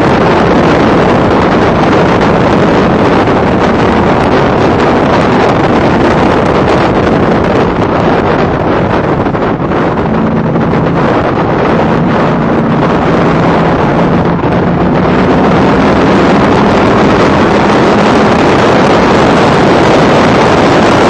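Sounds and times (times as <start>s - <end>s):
race car engine: 0.0s - 21.0s
wind buffeting: 0.0s - 21.0s.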